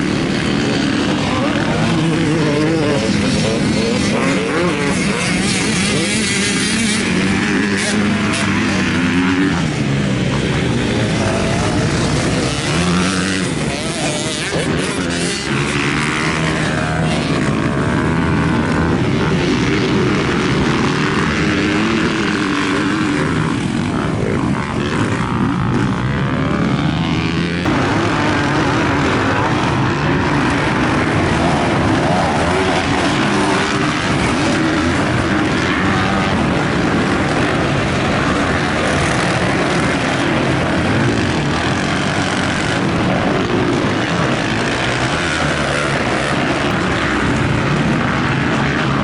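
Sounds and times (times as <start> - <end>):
motocross bike engines revving: 0.0 - 49.0.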